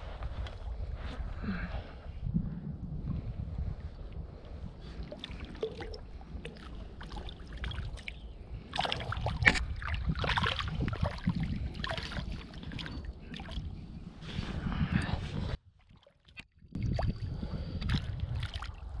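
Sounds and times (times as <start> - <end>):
steady low rumble: 0.0 - 15.6
water splashing and sloshing: 3.6 - 19.0.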